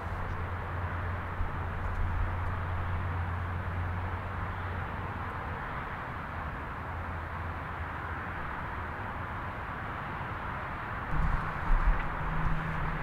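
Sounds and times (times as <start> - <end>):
distant turbine engines running: 0.0 - 13.0.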